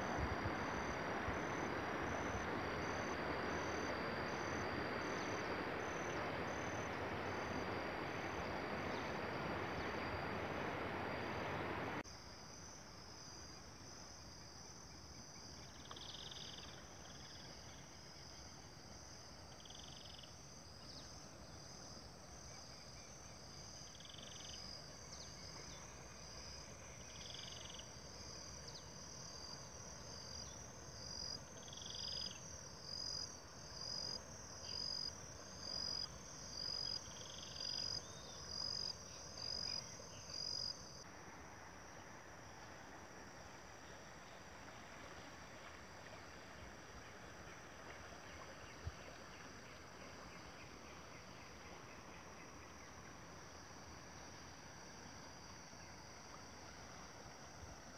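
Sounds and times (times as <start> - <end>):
insects chirring: 0.0 - 57.9.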